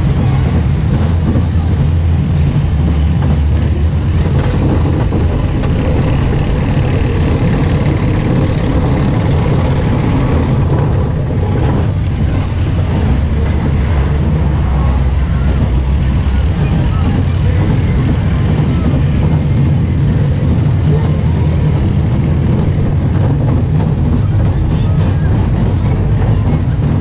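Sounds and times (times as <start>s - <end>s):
roller coaster car on track: 0.0s - 27.0s
wind on microphone: 0.0s - 27.0s.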